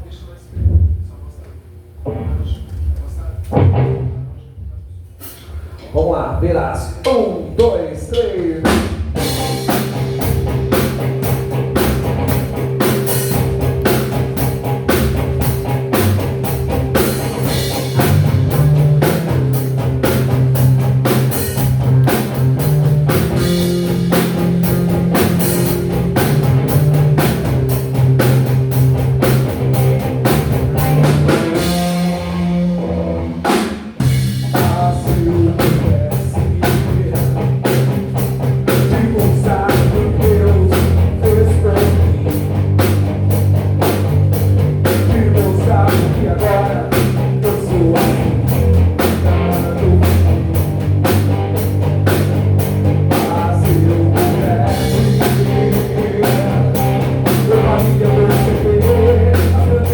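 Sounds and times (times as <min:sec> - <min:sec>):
drum kit beating: 0:00.5 - 0:59.9
live rock band playing: 0:03.5 - 0:04.3, 0:07.5 - 0:59.9.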